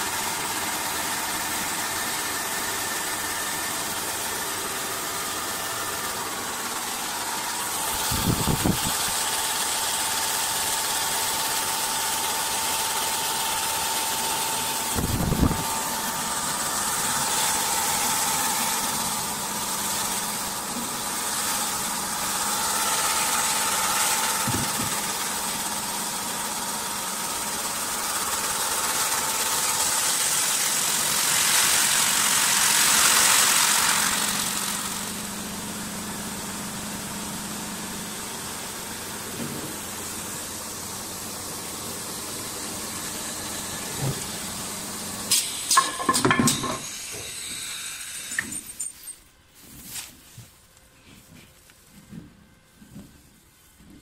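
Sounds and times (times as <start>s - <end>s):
wood-turning lathe hissing: 0.0s - 48.9s.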